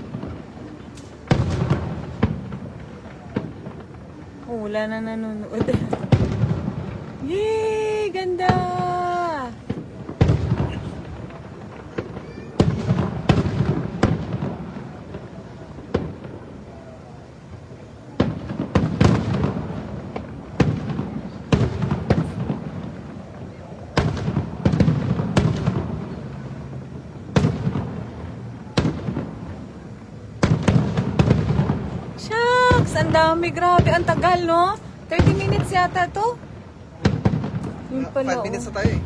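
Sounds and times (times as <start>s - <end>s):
fireworks booming: 0.0s - 39.0s.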